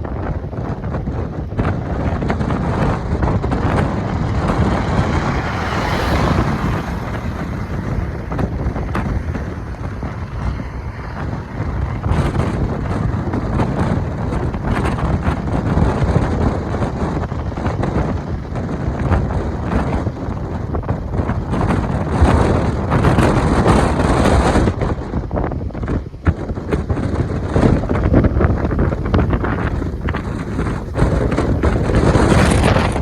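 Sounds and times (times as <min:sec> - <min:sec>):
strong wind on microphone: 0:00.0 - 0:33.0.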